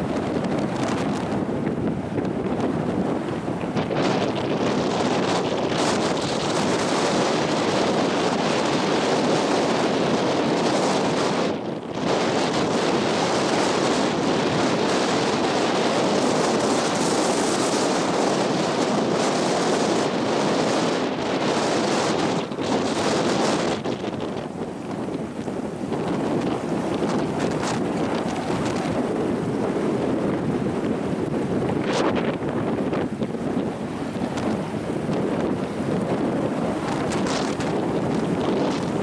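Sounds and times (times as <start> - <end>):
ocean surf on beach: 0.0 - 39.0
wind buffeting microphone: 0.0 - 39.0.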